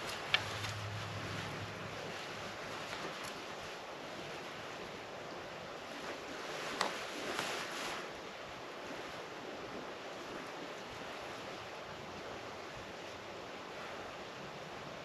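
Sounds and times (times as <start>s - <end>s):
wind rushing through woods: 0.0s - 15.0s.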